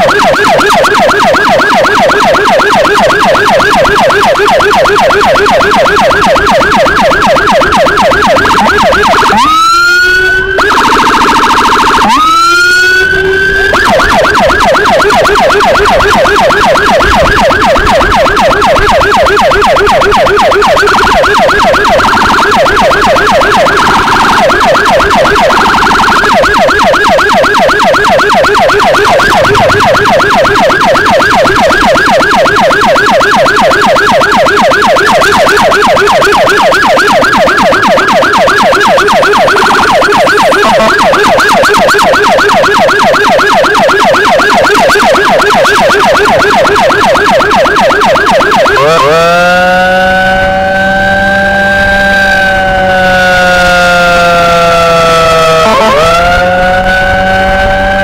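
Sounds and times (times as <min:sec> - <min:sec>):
emergency siren yelping: 0:00.0 - 0:58.0
siren wailing: 0:00.0 - 0:58.0.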